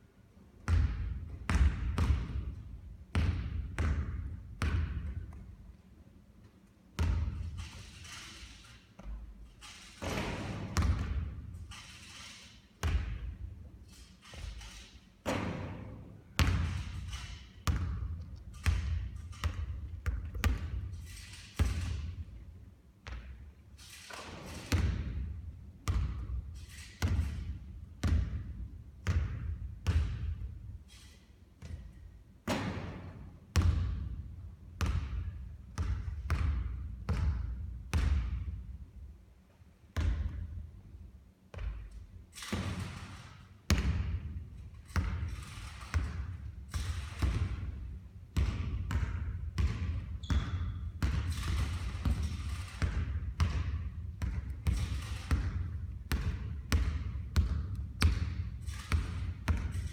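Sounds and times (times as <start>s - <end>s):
basketballs bouncing on court: 0.6s - 5.6s, 6.9s - 7.9s, 10.0s - 11.9s, 12.8s - 13.7s, 14.3s - 23.6s, 24.3s - 30.8s, 31.6s - 38.8s, 39.9s - 40.9s, 41.5s - 59.9s.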